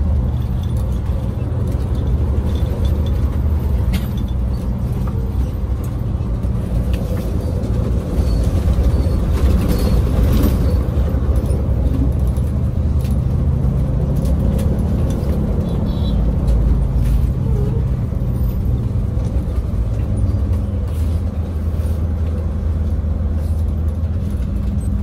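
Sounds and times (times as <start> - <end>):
bus engine running: 0.0 - 25.0
road noise: 0.0 - 25.0.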